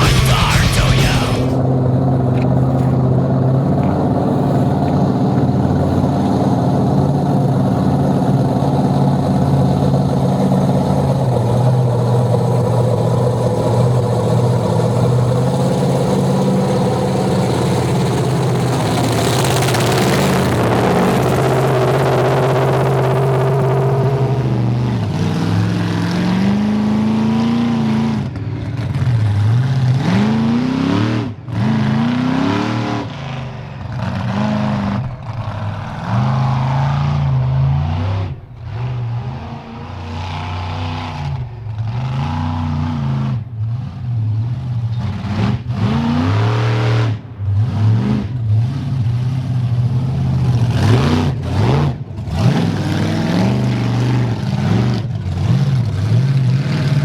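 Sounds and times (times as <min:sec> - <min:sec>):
monster truck engine revving: 0:00.0 - 0:01.7, 0:10.8 - 0:57.0.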